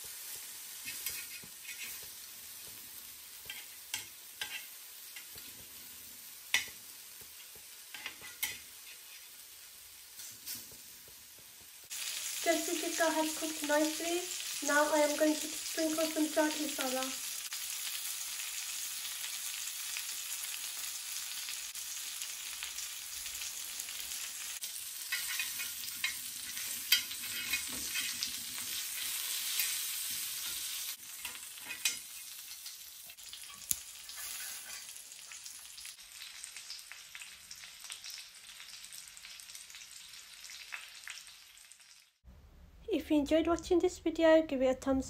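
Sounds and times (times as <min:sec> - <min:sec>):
skewers sizzling on hot pan: 0:00.0 - 0:42.2.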